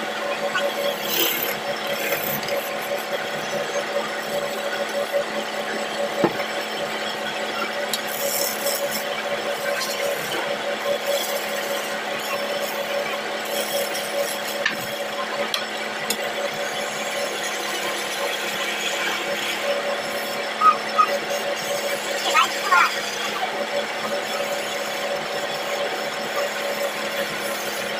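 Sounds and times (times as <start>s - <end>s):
wood lathe humming: 0.0s - 6.5s, 7.1s - 27.9s
chisel scraping spinning wood: 0.3s - 5.4s, 7.9s - 27.9s.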